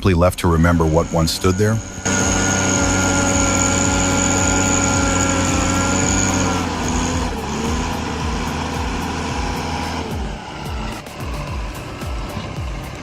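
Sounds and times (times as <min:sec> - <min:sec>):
high whine: 0:00.0 - 0:13.0
heavy machinery engine running: 0:00.4 - 0:13.0.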